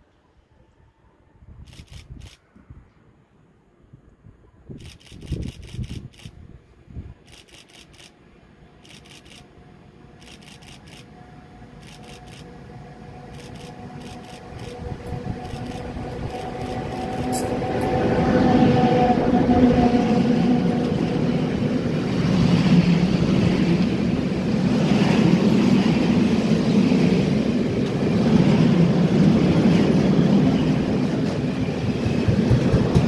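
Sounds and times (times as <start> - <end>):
electric locomotive hum passing: 4.4 - 33.0.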